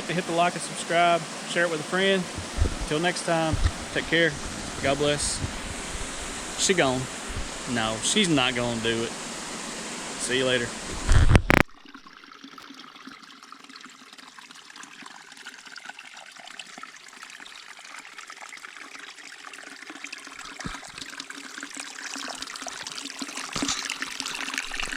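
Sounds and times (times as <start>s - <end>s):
creek water running over rocks: 0.0s - 24.9s.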